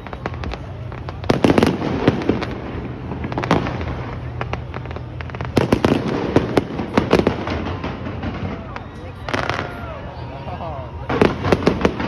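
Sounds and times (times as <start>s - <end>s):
fireworks banging: 0.0s - 10.0s, 10.8s - 12.0s.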